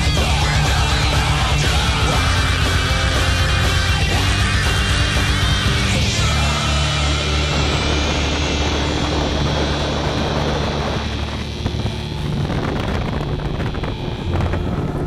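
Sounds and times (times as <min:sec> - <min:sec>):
outboard motor running: 0:00.0 - 0:15.0
wind on microphone: 0:00.0 - 0:15.0.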